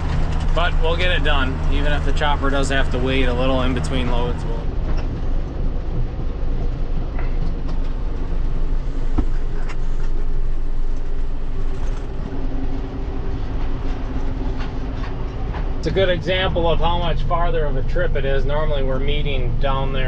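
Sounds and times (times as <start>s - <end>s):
tractor engine running under load: 0.0s - 20.0s
wagon and hitch rattling: 0.0s - 20.0s.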